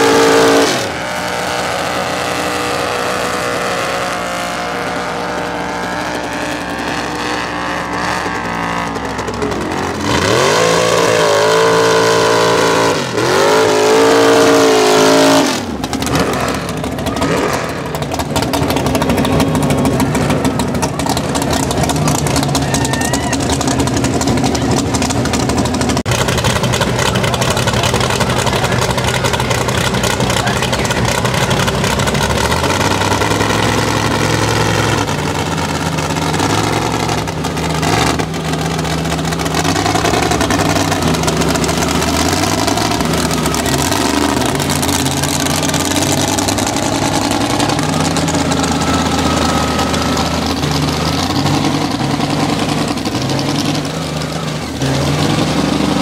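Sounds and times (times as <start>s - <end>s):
truck engines running hard: 0.0s - 56.0s.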